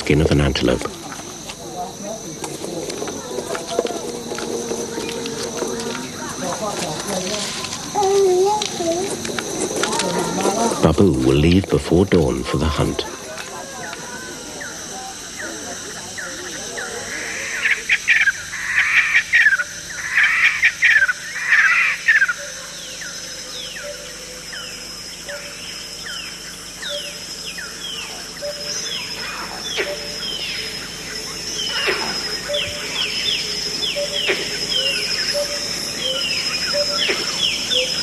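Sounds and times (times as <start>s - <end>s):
steady high whine: 0.0s - 38.0s.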